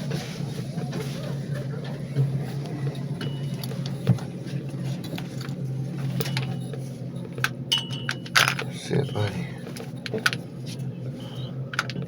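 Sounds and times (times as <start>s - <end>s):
elevator hum: 0.0s - 12.0s.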